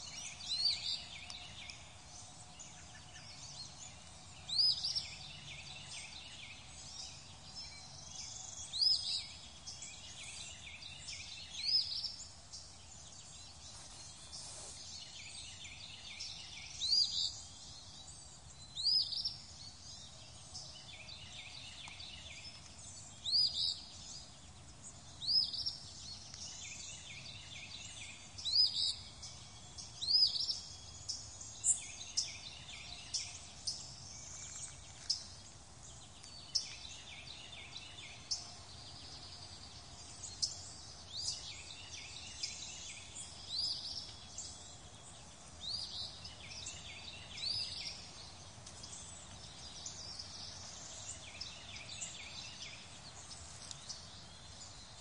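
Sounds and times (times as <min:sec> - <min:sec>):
faint bird chirping: 0:00.0 - 0:55.0
soft outdoor hiss: 0:00.0 - 0:55.0.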